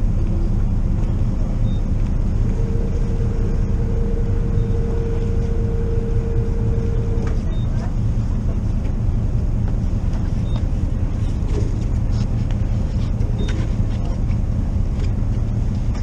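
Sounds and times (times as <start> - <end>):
engine idling low rumble: 0.0 - 16.0.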